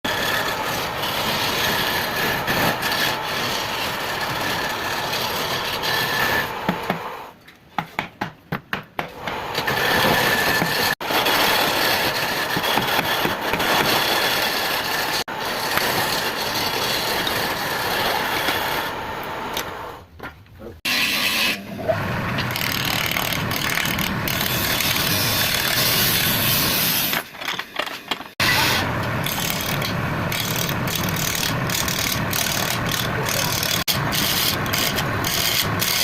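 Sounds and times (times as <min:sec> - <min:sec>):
power tool rasping wood: 0:00.1 - 0:07.1, 0:09.2 - 0:19.0, 0:22.3 - 0:27.2, 0:28.4 - 0:36.0.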